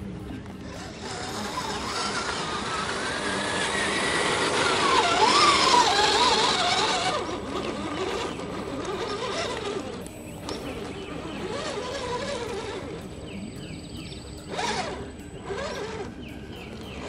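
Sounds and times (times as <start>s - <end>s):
electric motor and drivetrain whining: 0.0s - 17.0s.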